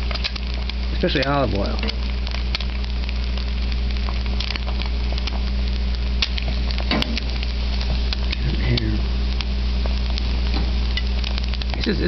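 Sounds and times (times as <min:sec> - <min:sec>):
egg sizzling in oil: 0:00.0 - 0:12.0.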